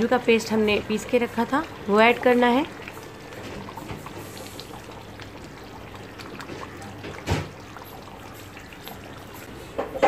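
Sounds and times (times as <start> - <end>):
curry bubbling: 0.0 - 10.0.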